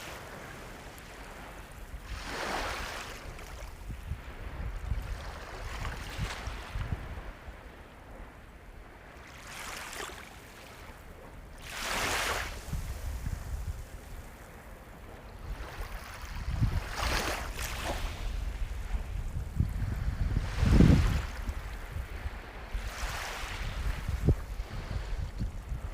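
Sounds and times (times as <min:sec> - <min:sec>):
sea waves breaking: 0:00.0 - 0:08.2, 0:09.0 - 0:25.9.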